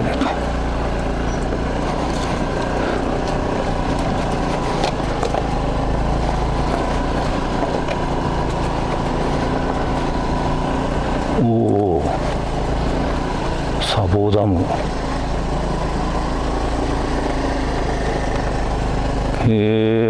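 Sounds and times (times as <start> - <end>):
wind and road noise: 0.0 - 19.7
scooter engine running: 0.0 - 20.0.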